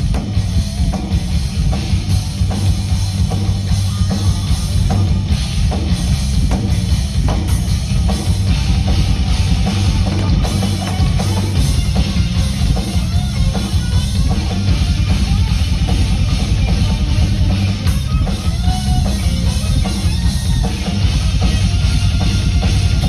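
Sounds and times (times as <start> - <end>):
drum kit hits: 0.0 - 23.0
rock band playing loud: 0.0 - 23.0.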